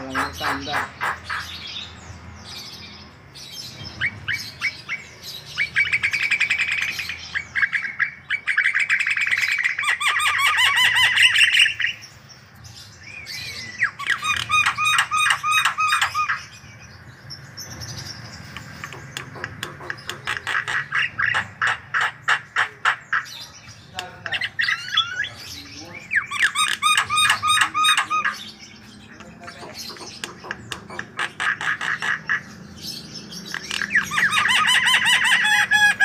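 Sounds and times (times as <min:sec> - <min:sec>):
bird chattering song: 0:00.0 - 0:36.0.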